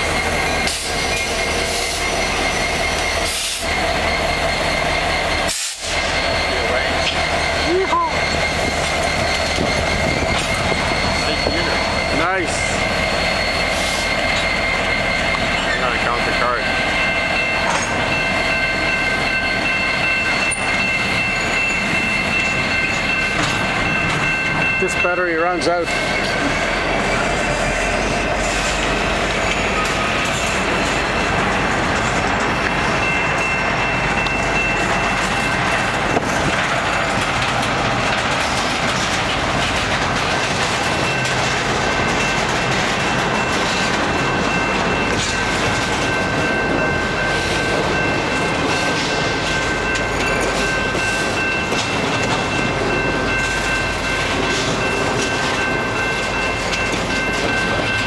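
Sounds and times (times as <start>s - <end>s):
freight train rumbling past: 0.0s - 58.0s
steady high tones: 0.0s - 58.0s.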